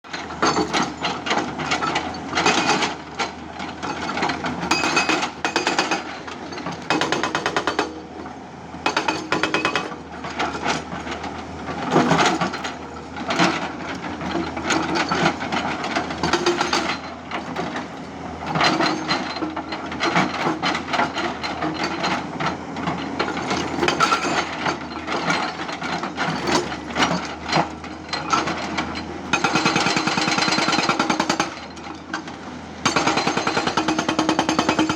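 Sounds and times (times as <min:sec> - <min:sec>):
hydraulic rock breaker hammering rock: 0:00.1 - 0:34.9.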